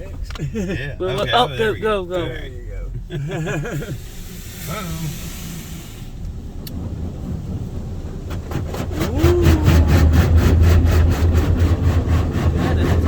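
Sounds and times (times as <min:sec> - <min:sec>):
car wash machinery rumble: 0:00.0 - 0:13.0
rapid regular clatter: 0:00.0 - 0:13.0.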